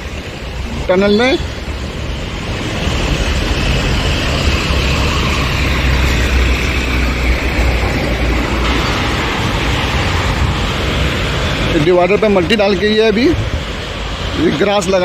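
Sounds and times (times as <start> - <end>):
cars going by: 0.0 - 15.0.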